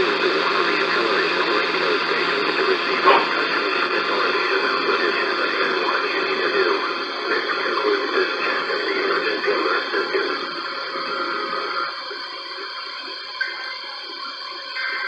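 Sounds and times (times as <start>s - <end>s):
music and voice from radio: 0.0s - 15.0s.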